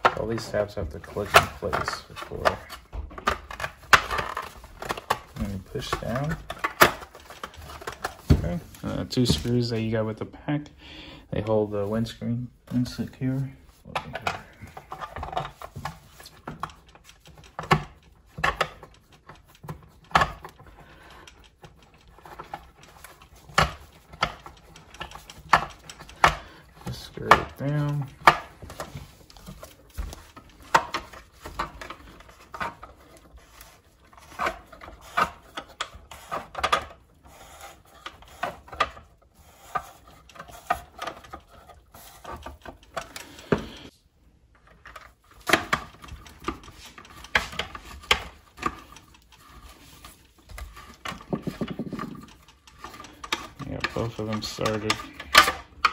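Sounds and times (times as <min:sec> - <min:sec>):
plastic parts clicking and knocking: 0:00.0 - 0:10.0, 0:11.4 - 0:55.9.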